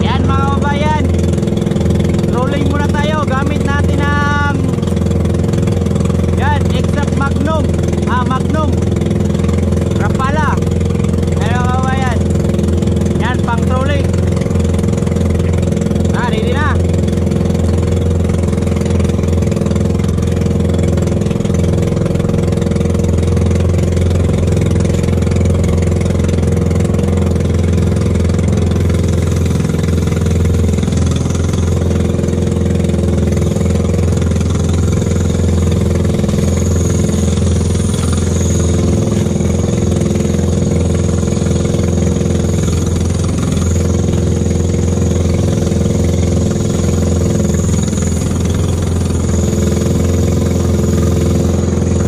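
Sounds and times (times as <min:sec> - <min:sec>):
small boat engine running: 0:00.0 - 0:52.0.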